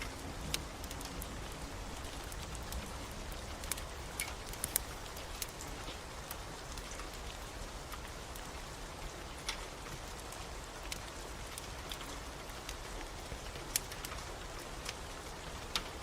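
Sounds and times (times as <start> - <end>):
steady rain: 0.0 - 16.0
wood fire crackling and popping: 0.0 - 16.0.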